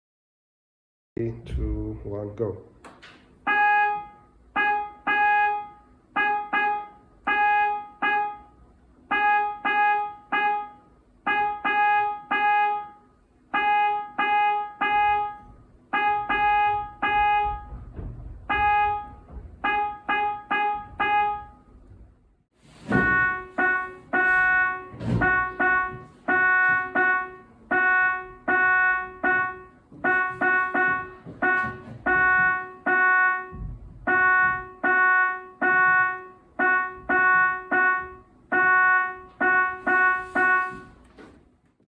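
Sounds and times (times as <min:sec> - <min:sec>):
electronic keyboard morse notes: 0:03.5 - 0:13.0, 0:13.6 - 0:17.8, 0:18.5 - 0:21.7, 0:22.9 - 0:41.0.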